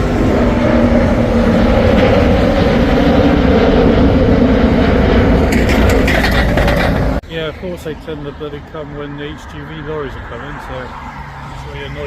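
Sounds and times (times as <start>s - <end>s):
heavy lorries passing: 0.0s - 12.0s
jet airliner taking off: 0.0s - 12.0s.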